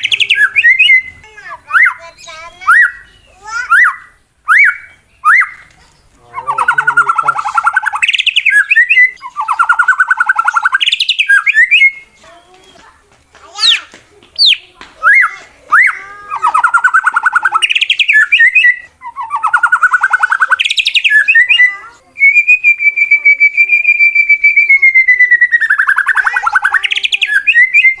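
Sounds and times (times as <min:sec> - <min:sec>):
songbird whistles and trills: 0:00.0 - 0:05.7, 0:06.4 - 0:28.0.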